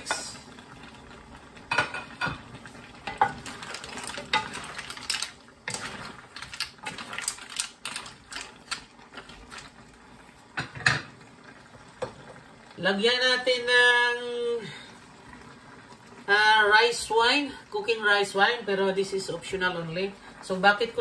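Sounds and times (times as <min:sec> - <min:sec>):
light sizzle: 0:00.0 - 0:21.0.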